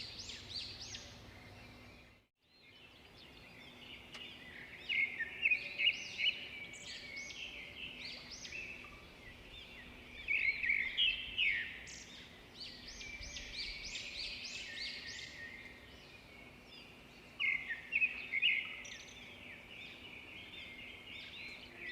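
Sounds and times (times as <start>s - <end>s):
small birds chirping and twittering: 0.0s - 21.9s.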